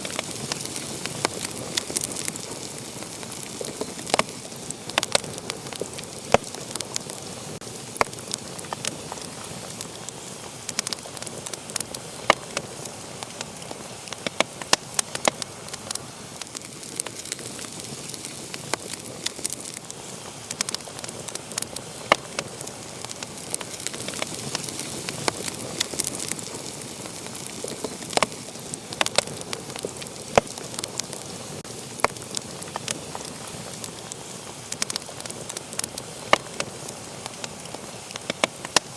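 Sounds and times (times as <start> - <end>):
fire crackles and pops: 0.0 - 38.9
wood fire hissing: 0.0 - 38.9.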